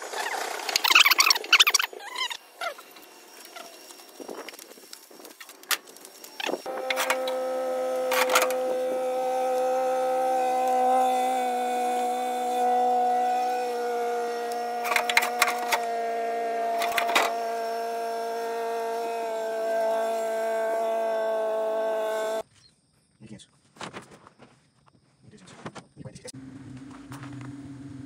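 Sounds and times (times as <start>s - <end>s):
mini excavator engine whine: 0.0s - 22.4s, 26.4s - 28.0s.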